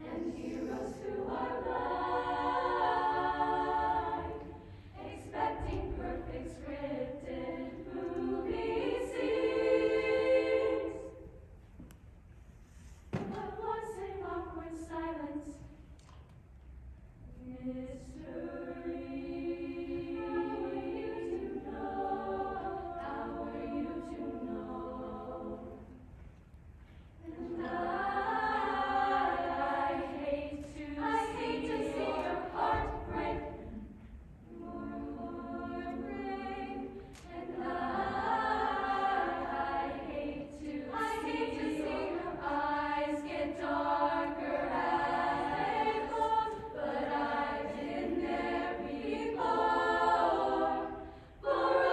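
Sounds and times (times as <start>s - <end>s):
choir singing in harmony: 0.0s - 11.6s, 13.1s - 15.8s, 17.3s - 26.3s, 27.2s - 51.9s.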